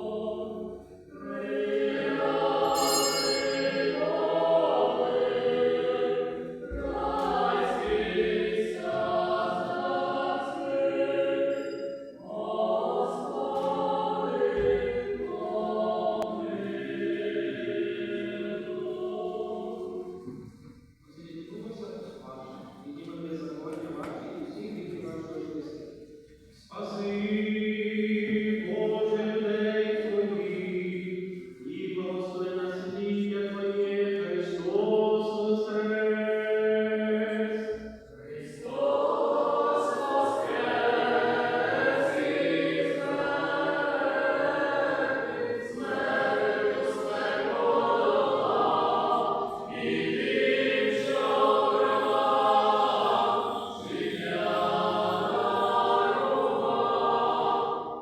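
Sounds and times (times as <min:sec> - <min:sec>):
choir chanting a cappella: 0:00.0 - 0:20.8, 0:26.7 - 0:58.0.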